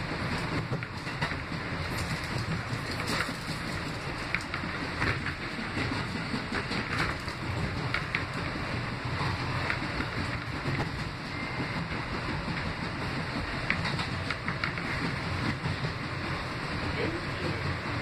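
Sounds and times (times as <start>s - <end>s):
rumble of wheels on rail: 0.0s - 18.0s.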